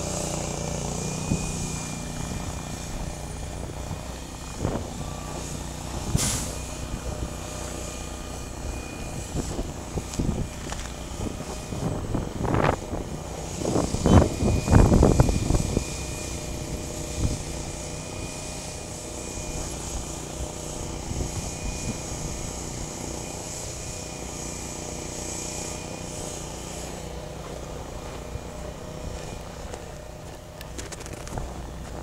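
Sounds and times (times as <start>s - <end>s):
engine drone: 0.0s - 32.0s
faint high whine: 0.0s - 32.0s.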